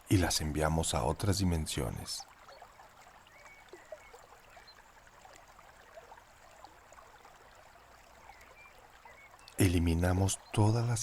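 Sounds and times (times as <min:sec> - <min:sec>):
stream trickling: 0:00.0 - 0:11.0.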